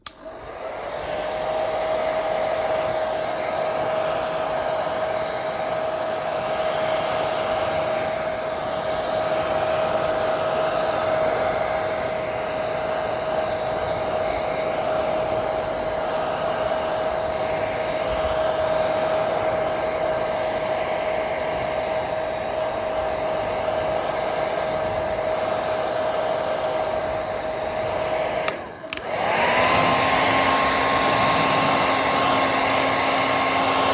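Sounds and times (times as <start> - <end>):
blow dryer running: 0.0 - 33.9.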